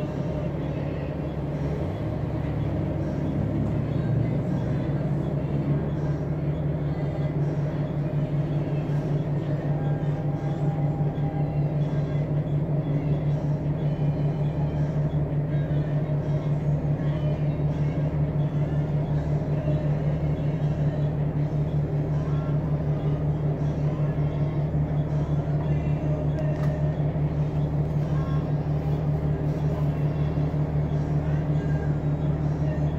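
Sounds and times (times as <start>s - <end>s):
bus engine droning: 0.0s - 32.9s.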